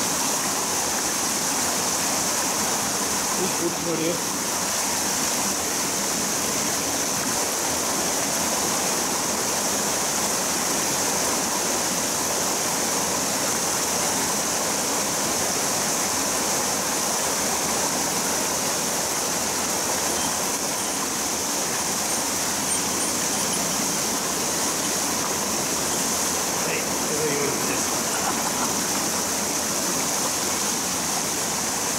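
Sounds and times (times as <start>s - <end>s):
water rushing down stream: 0.0s - 31.9s.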